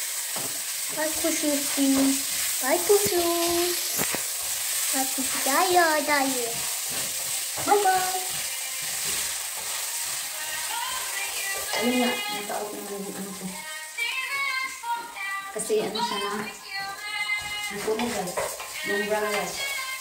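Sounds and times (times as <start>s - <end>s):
food sizzling on stove: 0.0s - 20.0s.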